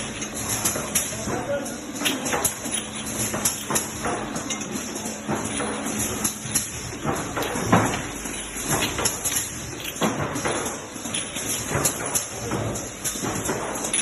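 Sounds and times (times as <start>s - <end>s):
machine clacks and knocks: 0.0s - 14.0s.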